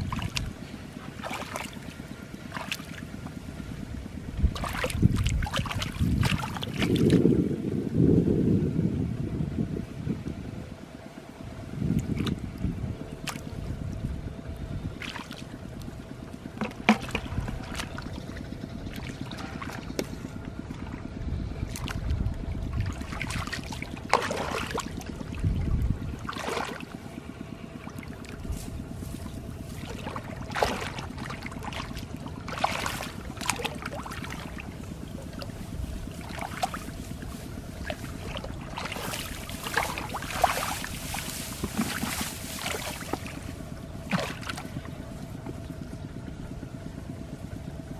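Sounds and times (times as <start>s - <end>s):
splashing in muddy water: 0.0s - 7.4s, 11.7s - 46.0s
steady low rumble: 0.0s - 47.9s.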